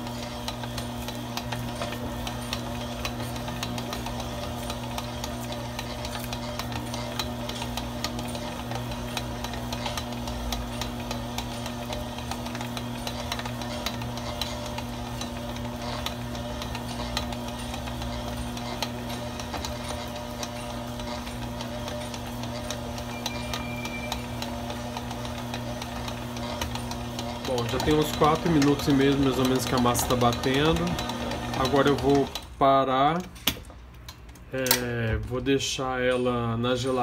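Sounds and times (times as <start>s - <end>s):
stand mixer motor hum: 0.0s - 32.6s.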